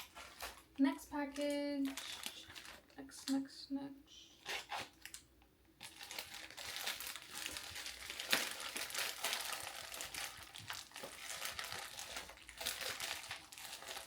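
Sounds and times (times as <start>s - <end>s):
packaging crinkling: 0.0s - 3.0s, 4.4s - 14.0s.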